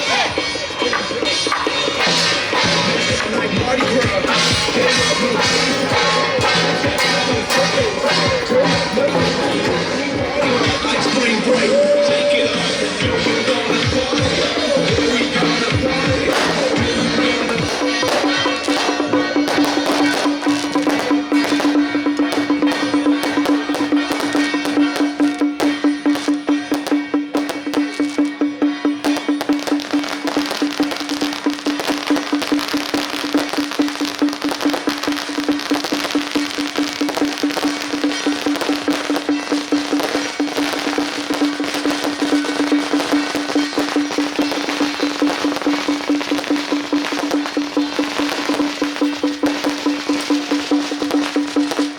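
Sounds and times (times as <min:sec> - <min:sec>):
drum beating fast rhythm: 0:00.0 - 0:51.9
firecrackers crackling: 0:00.0 - 0:51.9
metal percussion strokes: 0:00.0 - 0:51.9.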